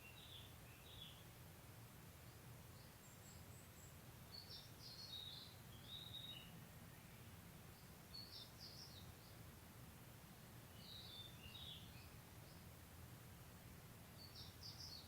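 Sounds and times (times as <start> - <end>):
songbird chirping: 0.0 - 1.4, 2.1 - 9.6, 10.6 - 12.9, 14.0 - 15.0.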